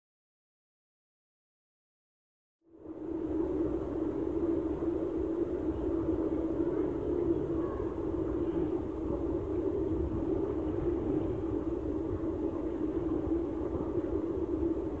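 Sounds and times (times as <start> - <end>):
muffled rumble of water: 2.6 - 15.0.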